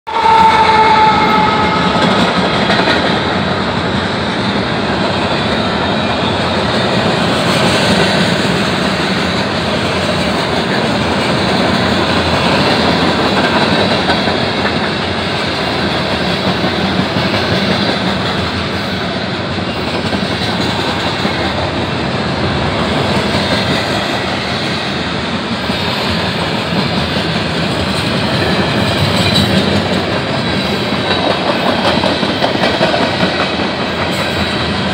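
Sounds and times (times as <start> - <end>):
train wheels rolling on rail: 0.1 - 34.9.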